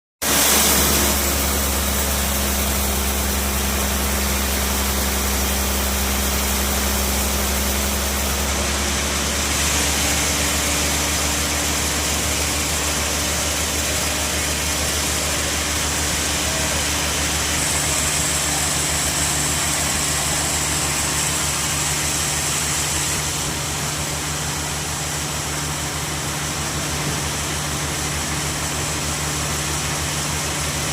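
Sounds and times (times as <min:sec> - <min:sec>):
sawmill mechanical drone: 0:00.2 - 0:30.9.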